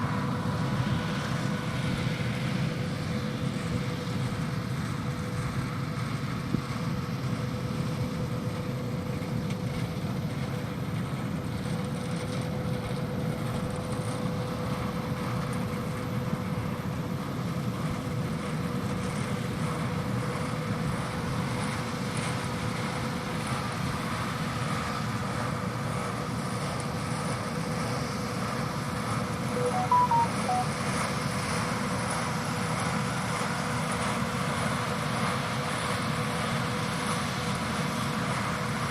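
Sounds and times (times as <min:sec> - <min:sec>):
tractor engines and machinery drone: 0:00.0 - 0:38.9.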